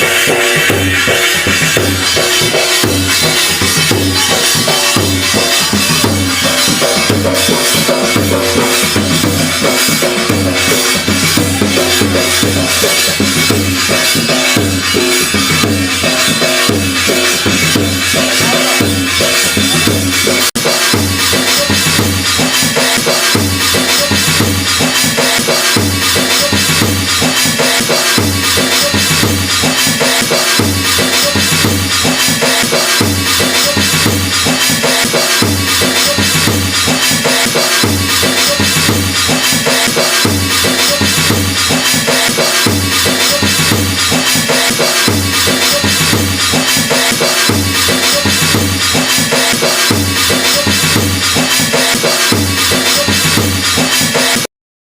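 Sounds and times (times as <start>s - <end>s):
dhol drum dance rhythm: 0.0s - 54.5s.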